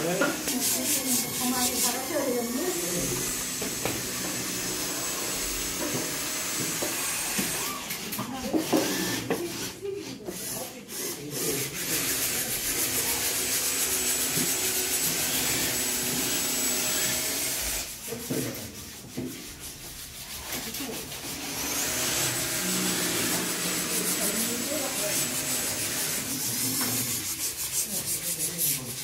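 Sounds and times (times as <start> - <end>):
power sander on wood: 0.0 - 18.5, 20.6 - 29.0.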